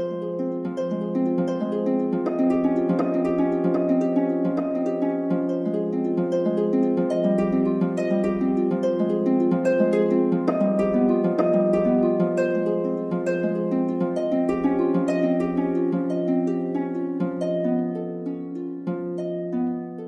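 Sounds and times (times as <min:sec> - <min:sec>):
plucked-string instrumental music: 0:00.0 - 0:20.0.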